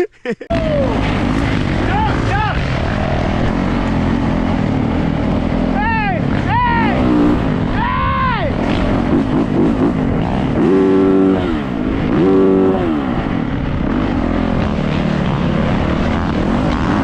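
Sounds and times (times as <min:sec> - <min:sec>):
dirt bike engine revving: 0:00.5 - 0:17.0.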